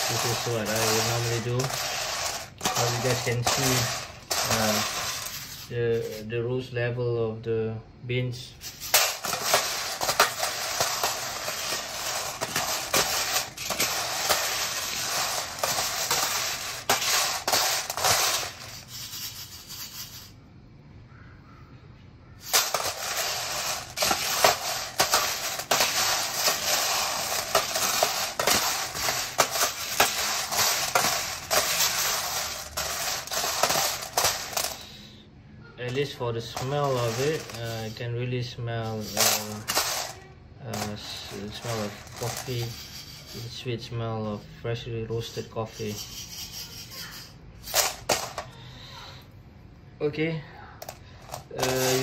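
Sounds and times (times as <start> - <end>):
coffee beans rattling on metal tray: 0.0 - 6.3, 8.6 - 20.3, 22.4 - 35.0, 35.9 - 44.5, 45.1 - 49.1, 50.8 - 52.0.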